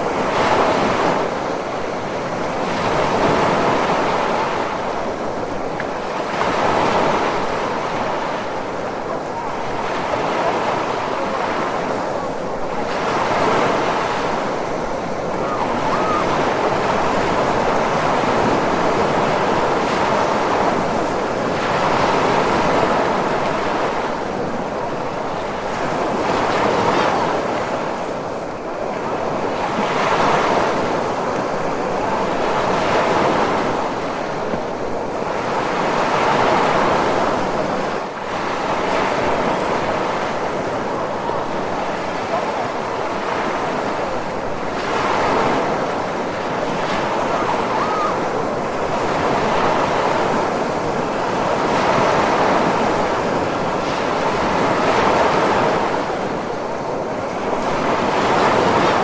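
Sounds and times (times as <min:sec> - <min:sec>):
ocean surf rushing: 0:00.0 - 0:59.0.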